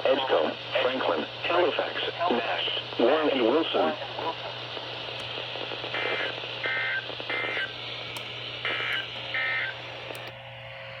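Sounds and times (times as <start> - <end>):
radio hiss: 0.0 - 10.3.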